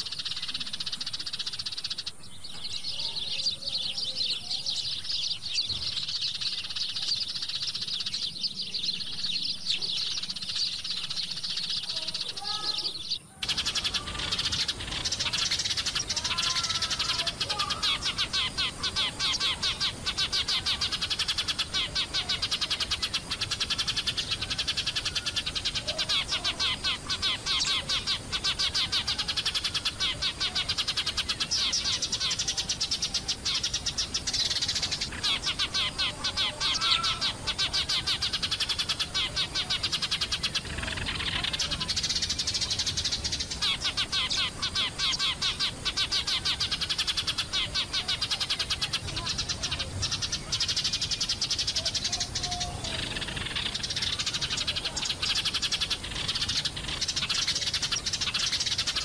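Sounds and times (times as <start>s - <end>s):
flock of sparrows chirping: 0.0s - 59.0s.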